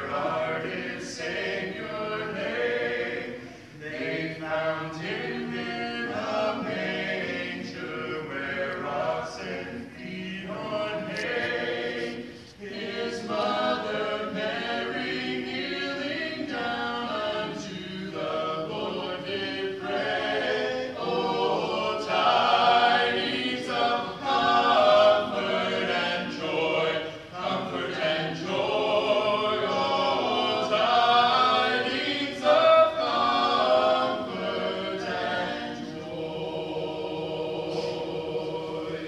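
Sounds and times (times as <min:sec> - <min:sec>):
group singing a cappella: 0:00.0 - 0:39.0.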